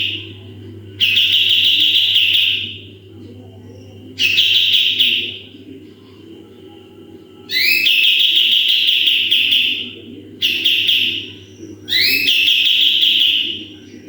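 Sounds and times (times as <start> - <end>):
songbird singing: 0.0 - 14.0
steady low hum: 0.0 - 14.0.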